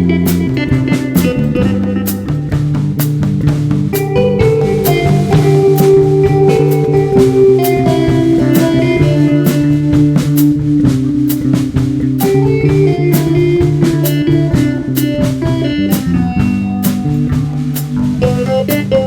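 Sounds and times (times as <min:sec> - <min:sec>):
drum kit beat with cymbals: 0:00.0 - 0:19.0
sustained guitar notes: 0:00.0 - 0:19.0.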